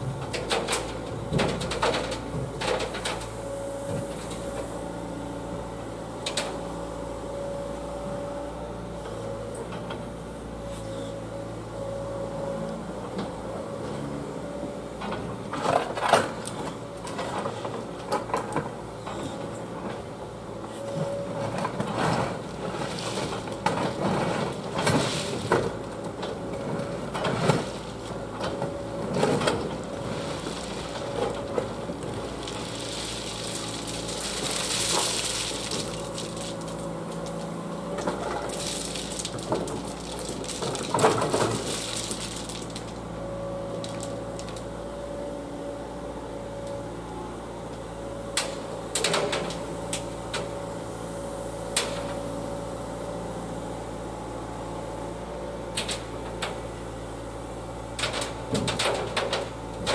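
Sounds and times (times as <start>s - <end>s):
excavator engine hum and whine: 0.0s - 59.9s.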